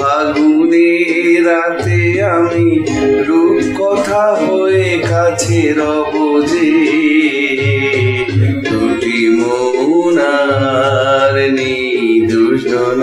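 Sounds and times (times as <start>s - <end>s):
instrumental music with pulsing bass: 0.0s - 13.0s
man singing: 0.0s - 13.0s.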